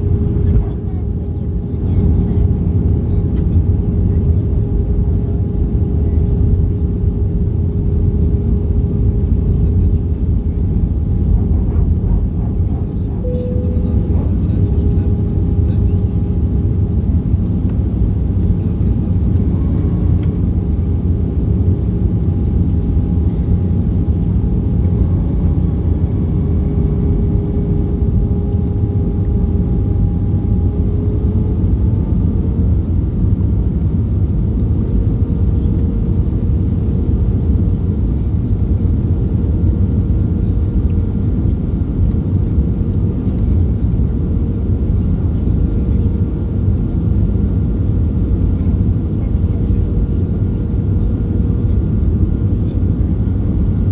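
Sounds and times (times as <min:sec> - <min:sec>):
airplane cabin rumble: 0:00.0 - 0:53.9
faint jet engine whine: 0:00.0 - 0:53.9.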